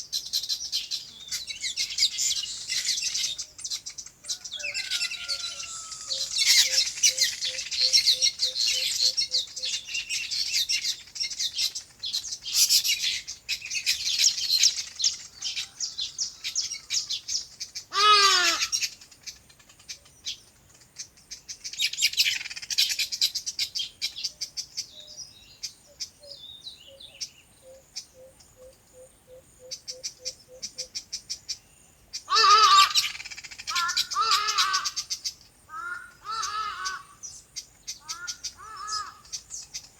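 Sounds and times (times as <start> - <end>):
flock of small birds chirping: 0.0 - 39.9
loud pitched bird calls: 0.0 - 39.9.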